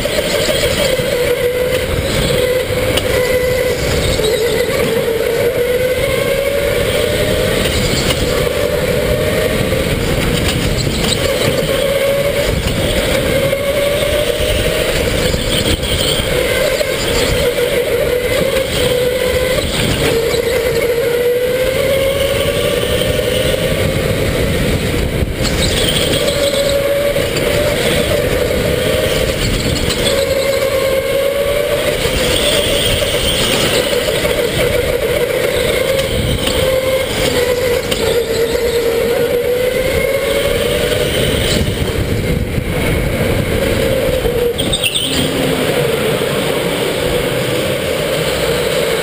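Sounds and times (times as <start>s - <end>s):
electric motor whining: 0.0s - 49.0s
rough rush of tyre noise: 0.0s - 49.0s.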